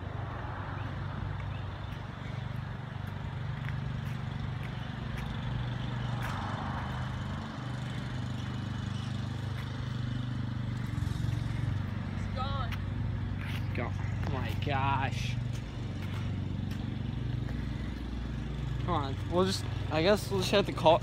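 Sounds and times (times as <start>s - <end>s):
car passing: 0.0s - 21.0s
low engine hum: 0.0s - 21.0s.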